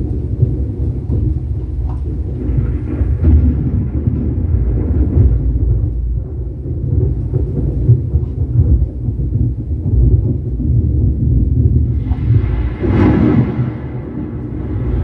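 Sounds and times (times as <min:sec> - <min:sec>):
deep thunder-like rumbling: 0:00.0 - 0:15.0.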